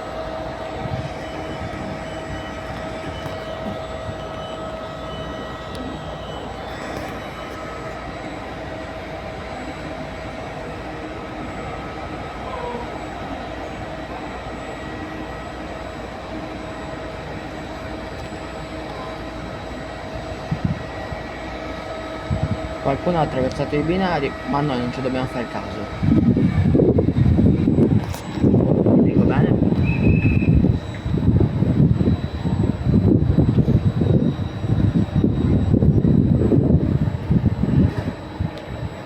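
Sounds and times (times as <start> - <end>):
high whine: 0.0 - 39.0
train rumbling: 0.0 - 39.0.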